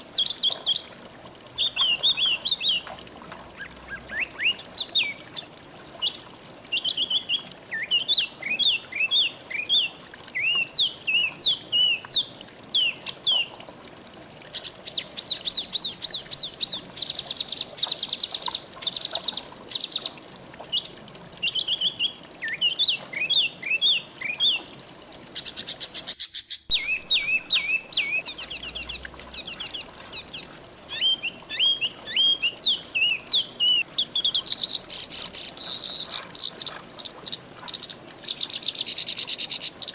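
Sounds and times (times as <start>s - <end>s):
songbirds singing: 0.0s - 13.6s, 14.5s - 39.9s.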